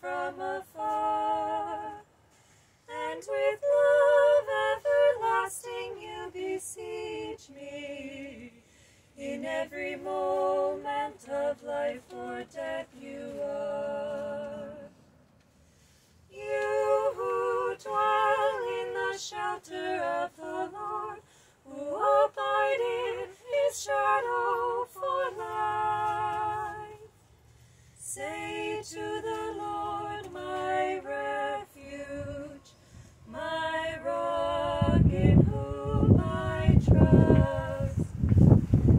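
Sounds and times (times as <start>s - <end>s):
women singing a cappella: 0.0s - 15.1s, 16.2s - 27.4s, 28.0s - 38.9s.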